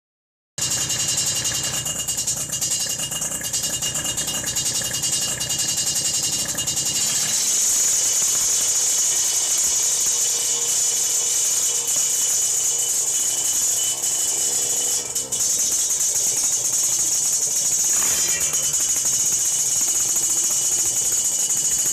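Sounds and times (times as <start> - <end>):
two-stroke motorcycle engine: 0.6 - 21.9.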